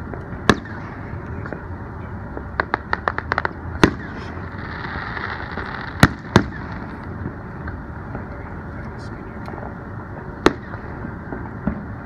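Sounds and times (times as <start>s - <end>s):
crackling firework pops: 0.0s - 1.7s, 2.3s - 8.4s, 9.4s - 12.0s
loud firework bangs: 0.0s - 1.7s, 2.3s - 8.5s, 9.6s - 12.0s
hissing crackle: 0.0s - 12.0s.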